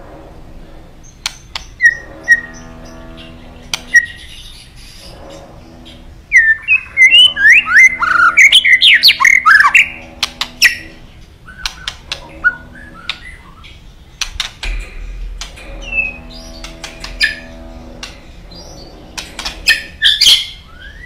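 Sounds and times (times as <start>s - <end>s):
bird singing: 1.0s - 21.0s.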